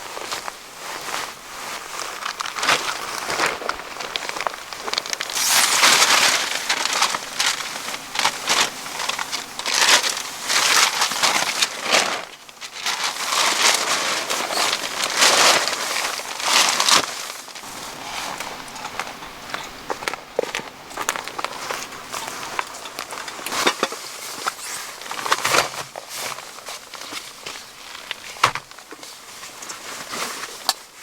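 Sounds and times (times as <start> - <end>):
crinkling crunching rustles: 0.0 - 31.0.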